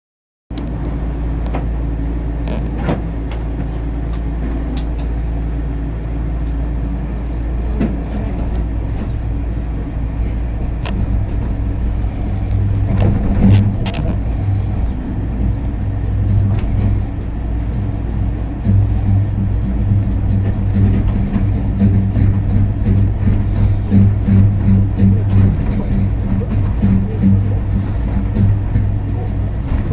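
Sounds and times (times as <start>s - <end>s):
low hum: 0.5s - 29.9s
vehicle engine rumbling: 0.5s - 29.9s.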